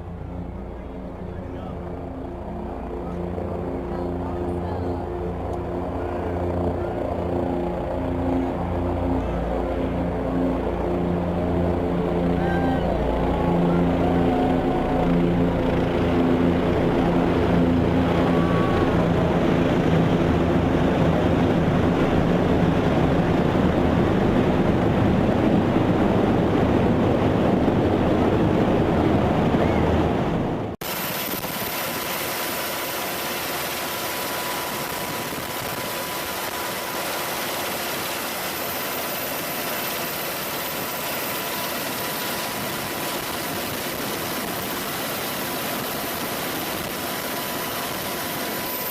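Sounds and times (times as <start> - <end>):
engine with high whine: 0.0 - 48.9
helicopter rotors and engines droning: 0.0 - 48.9.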